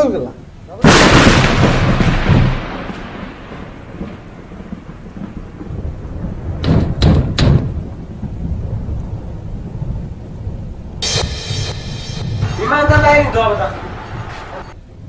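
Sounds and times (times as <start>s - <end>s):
thunder rumbling: 0.4s - 15.0s
sharp thunder cracks: 0.8s - 14.4s.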